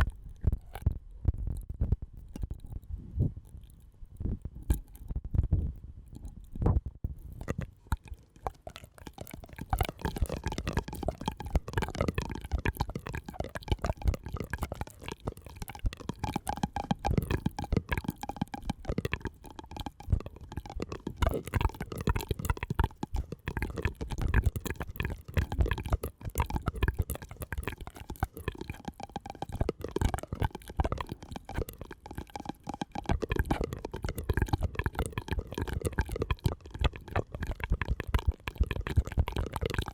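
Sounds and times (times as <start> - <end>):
wet mouth clicks and pops: 0.0 - 39.9.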